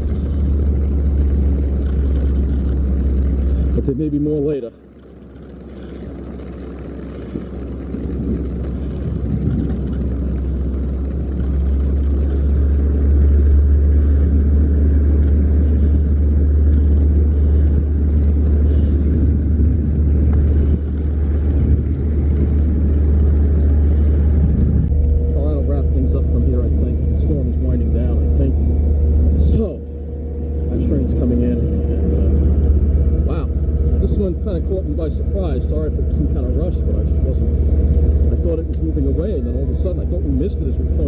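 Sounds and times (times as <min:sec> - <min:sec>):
electric train rumbling: 0:00.0 - 0:41.0.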